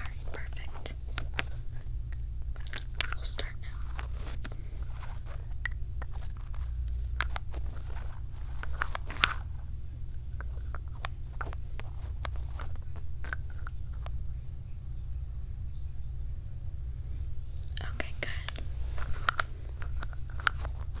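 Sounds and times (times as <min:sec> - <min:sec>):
small clicks and crackles: 0:00.0 - 0:14.3, 0:17.5 - 0:21.0
steady low hum: 0:00.0 - 0:21.0.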